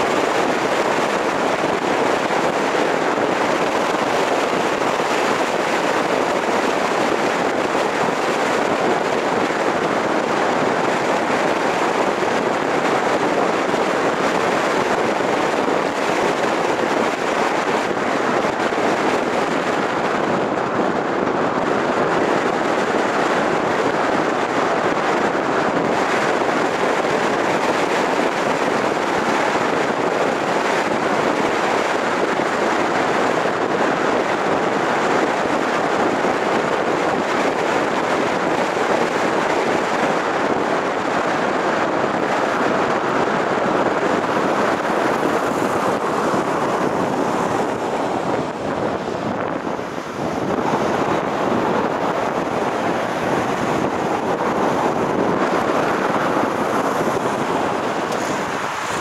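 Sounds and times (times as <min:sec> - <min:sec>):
car road noise: 0:00.0 - 0:59.0
wind rushing over microphone: 0:00.0 - 0:59.0.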